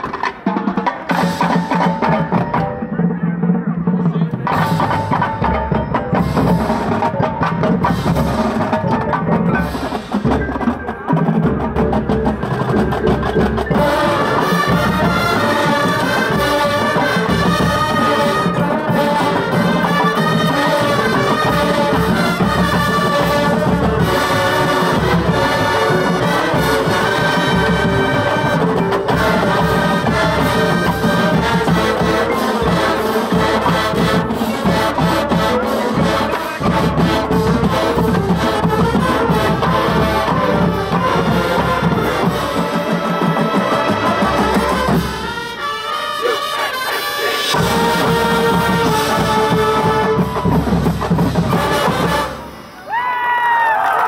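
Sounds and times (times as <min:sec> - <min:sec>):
marching band playing: 0:00.0 - 0:54.0
marching percussion: 0:00.0 - 0:54.0.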